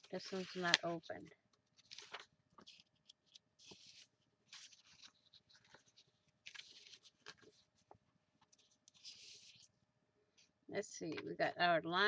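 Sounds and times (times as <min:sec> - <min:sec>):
paper sheets rustling: 0:00.0 - 0:09.7.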